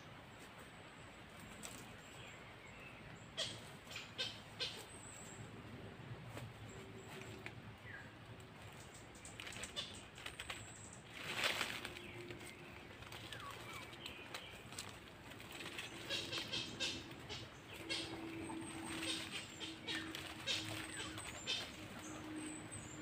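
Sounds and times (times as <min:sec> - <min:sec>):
faint bird calls: 0:01.4 - 0:23.0
rustling in dry leaves: 0:03.4 - 0:23.0.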